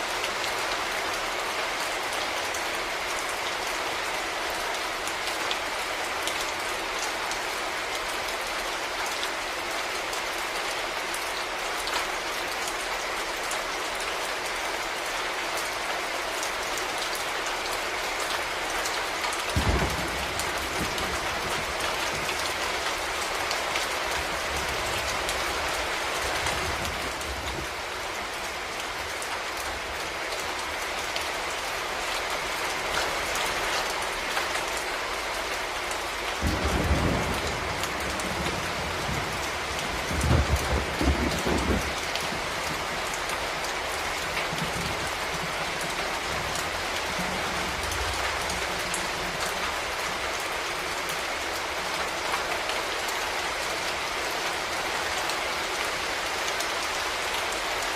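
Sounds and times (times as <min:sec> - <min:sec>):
steady rain pattering: 0:00.0 - 0:57.9.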